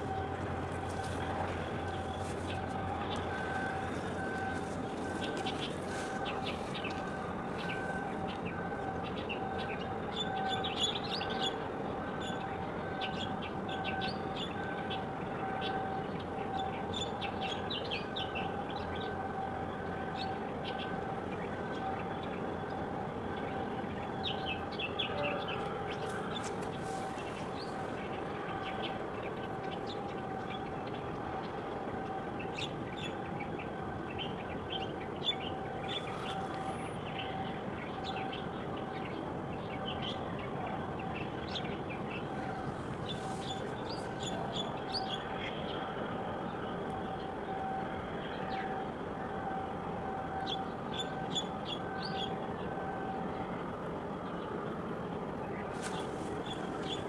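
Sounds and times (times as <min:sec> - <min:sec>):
mechanical harbour hum: 0:00.0 - 0:57.0.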